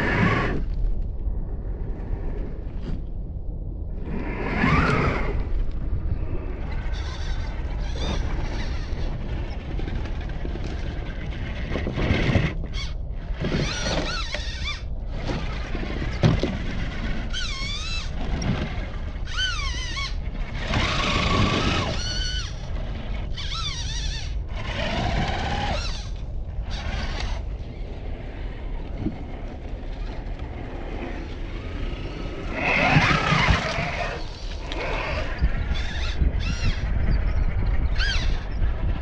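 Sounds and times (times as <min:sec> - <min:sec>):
steady low rumble: 0:00.0 - 0:39.0
electric motors whining: 0:04.0 - 0:39.0.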